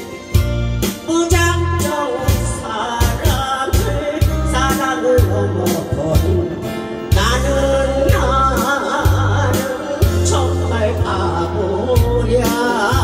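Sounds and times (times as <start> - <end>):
acoustic guitar: 0.0 - 13.0
backing track with bass-drum beat: 0.0 - 13.0
woman singing into a microphone: 1.0 - 13.0.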